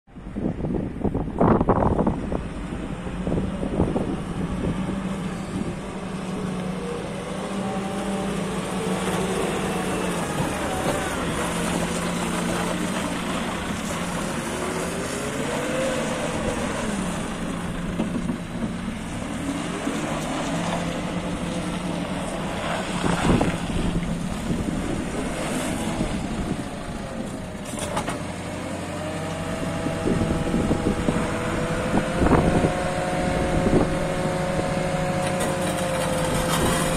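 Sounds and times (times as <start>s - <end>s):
diesel engine running: 0.1s - 36.9s.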